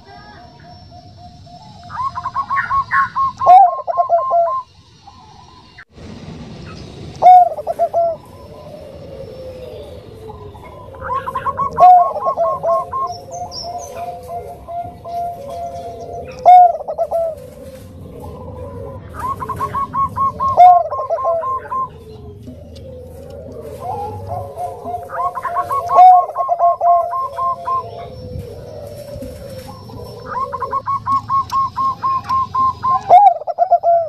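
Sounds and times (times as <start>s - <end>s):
dove cooing: 0.0s - 5.7s, 6.6s - 34.0s.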